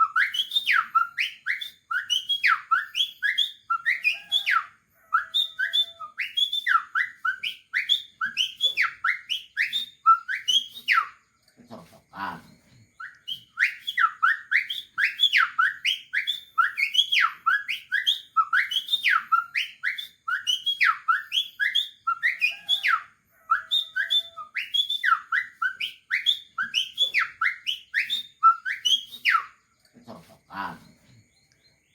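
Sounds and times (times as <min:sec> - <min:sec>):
man whistling birdsong imitation: 0:00.0 - 0:11.3, 0:12.2 - 0:29.7.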